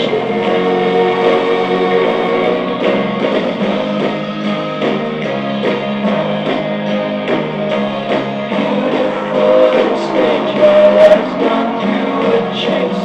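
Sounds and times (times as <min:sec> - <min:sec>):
muffled rock song from cassette: 0:00.0 - 0:13.0.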